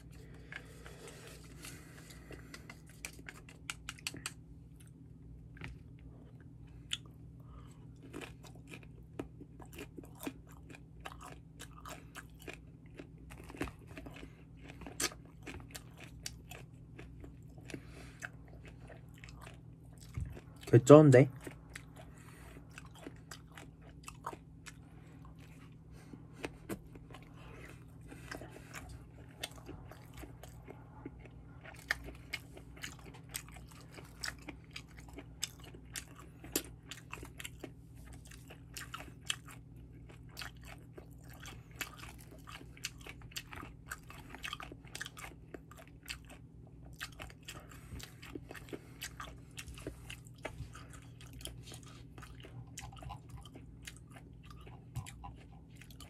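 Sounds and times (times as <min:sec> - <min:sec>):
person chewing with mouth clicks: 0:00.0 - 0:05.0, 0:05.6 - 0:56.0
low hum: 0:00.0 - 0:56.0.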